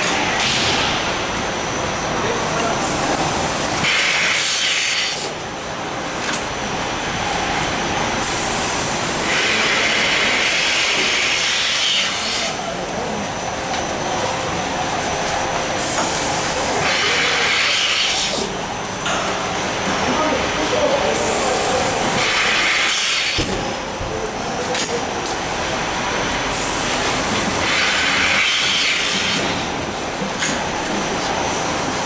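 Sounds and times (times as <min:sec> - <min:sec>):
milking machinery noise: 0:00.0 - 0:32.0.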